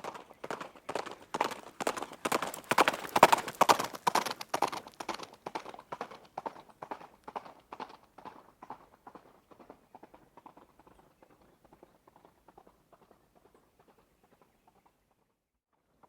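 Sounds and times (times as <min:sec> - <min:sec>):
horse hooves clip-clopping: 0:00.0 - 0:15.2.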